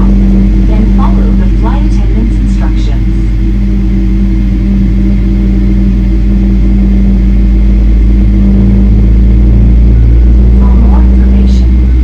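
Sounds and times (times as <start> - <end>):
jet engine spooling up: 0.0 - 12.0.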